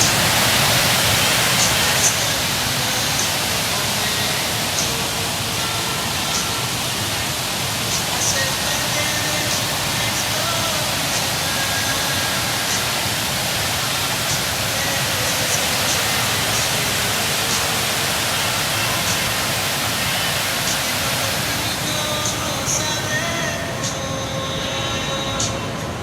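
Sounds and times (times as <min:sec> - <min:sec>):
snowstorm wind rushing hiss: 0:00.0 - 0:26.0.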